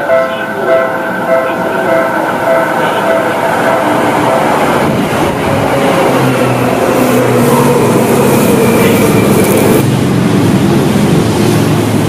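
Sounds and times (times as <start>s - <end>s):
low train hum: 0.0s - 12.0s
train wheels rumbling on rails: 0.0s - 12.0s.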